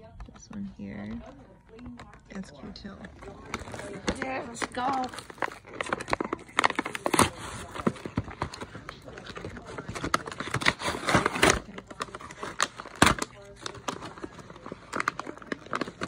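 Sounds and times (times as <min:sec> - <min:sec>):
blister packaging tearing: 0:03.1 - 0:16.0.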